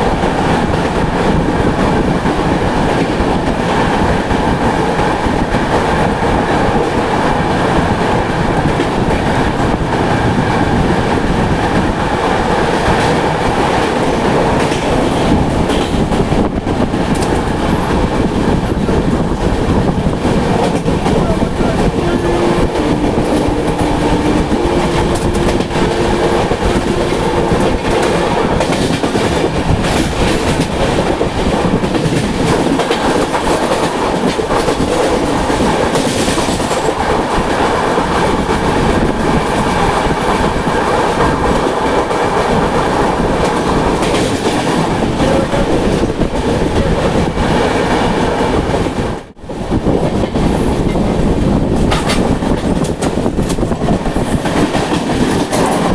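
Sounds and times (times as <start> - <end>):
train rail rumble: 0.0 - 55.9.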